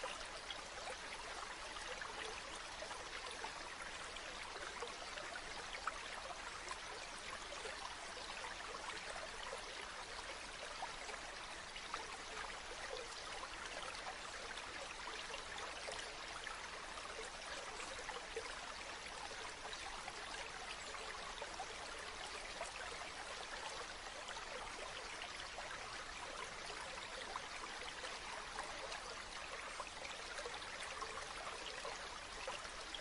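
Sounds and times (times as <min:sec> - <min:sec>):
small splashes and trickles: 0:00.0 - 0:33.0.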